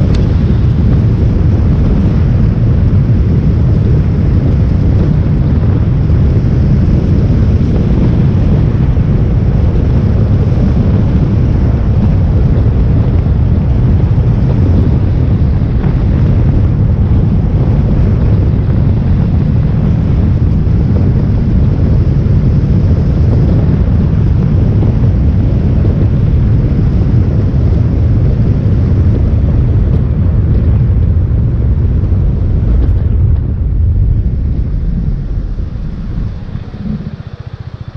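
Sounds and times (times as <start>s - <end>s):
motorcycle engine and road noise: 0.0s - 37.9s
wind rumble on microphone: 0.0s - 37.9s.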